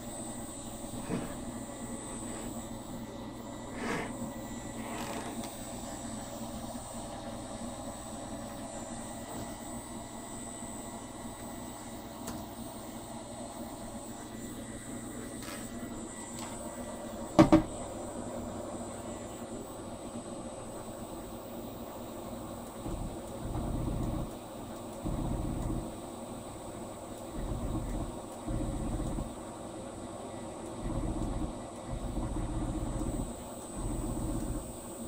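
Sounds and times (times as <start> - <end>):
mechanical hum with high whine: 0.0 - 35.0.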